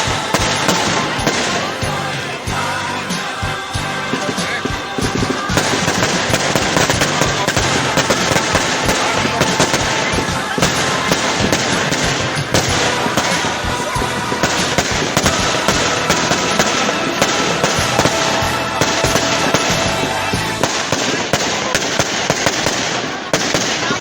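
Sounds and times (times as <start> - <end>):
fireworks popping and banging: 0.0 - 24.0.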